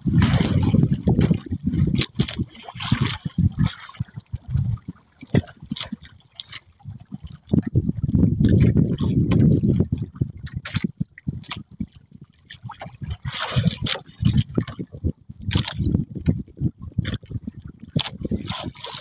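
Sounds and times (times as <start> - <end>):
water splashing against boat: 0.0 - 19.0
wind rumbling on microphone: 0.0 - 19.0.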